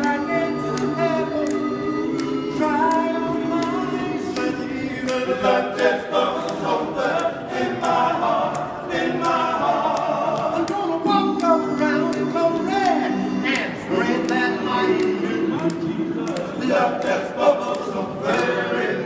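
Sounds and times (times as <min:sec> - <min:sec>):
men singing a cappella gospel: 0:00.0 - 0:19.0
sharp beat clicks: 0:00.0 - 0:19.0.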